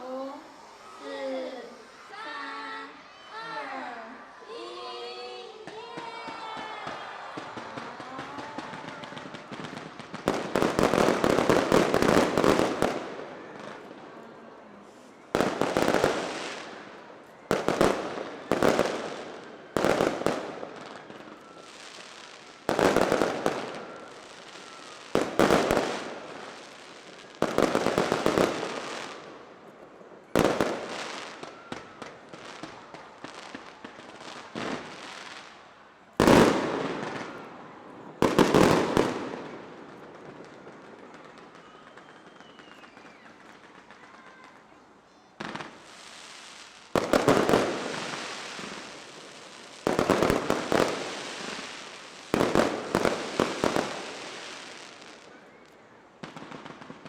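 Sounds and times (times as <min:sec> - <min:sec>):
fireworks bursting with crackling: 0:00.0 - 0:57.0.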